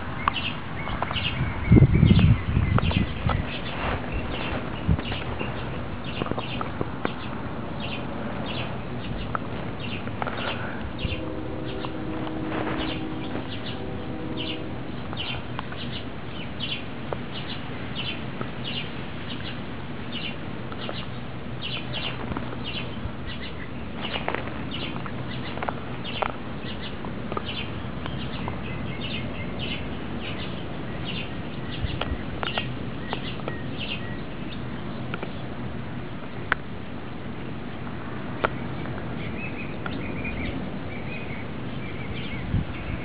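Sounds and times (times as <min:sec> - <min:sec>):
low background hum: 0:00.0 - 0:43.0
small bird chirping: 0:00.2 - 0:34.6.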